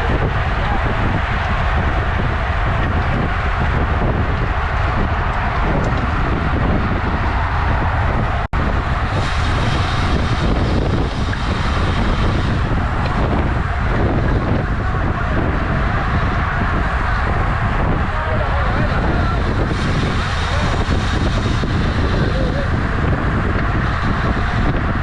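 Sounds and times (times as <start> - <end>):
bicycle road noise: 0.0 - 25.0
wind rumble on microphone: 0.0 - 25.0.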